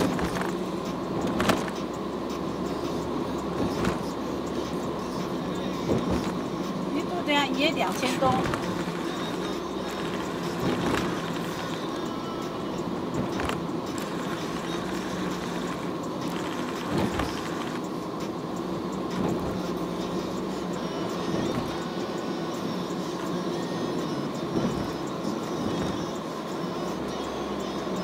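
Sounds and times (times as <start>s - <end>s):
car engine hum: 0.0s - 28.0s.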